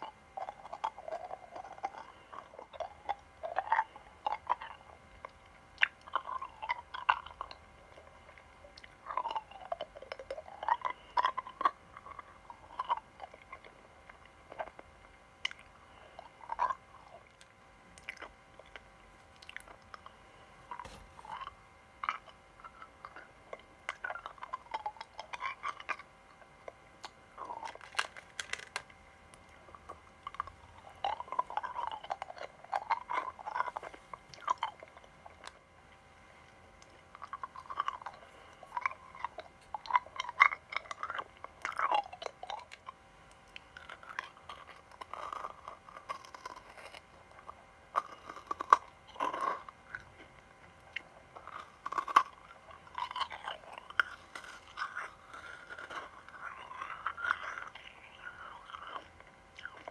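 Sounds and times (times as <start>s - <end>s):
chewing crunchy sweets: 0.0s - 59.9s.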